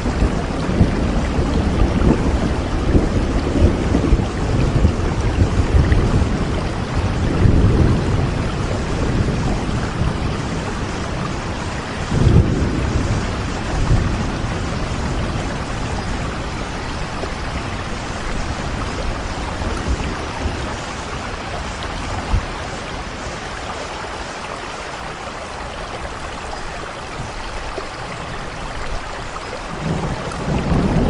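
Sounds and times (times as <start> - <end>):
low rumble of thunder: 0.0 - 23.9, 25.8 - 31.0
steady rain falling: 0.0 - 31.0.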